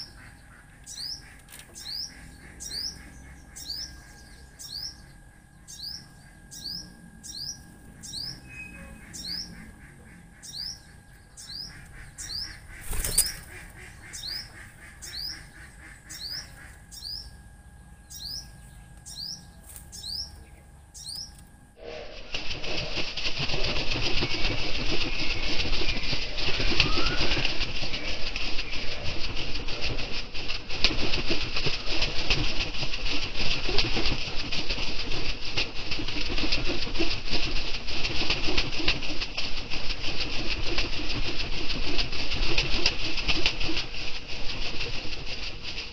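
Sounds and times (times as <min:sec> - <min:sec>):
wing flaps: 0:00.0 - 0:17.5, 0:18.3 - 0:45.9
dove cooing: 0:00.0 - 0:21.4, 0:22.6 - 0:39.2.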